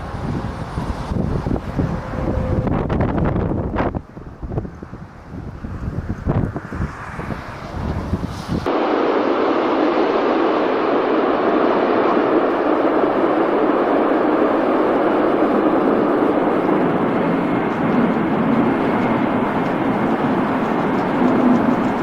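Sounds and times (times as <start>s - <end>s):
aircraft rushing noise: 0.0s - 22.0s.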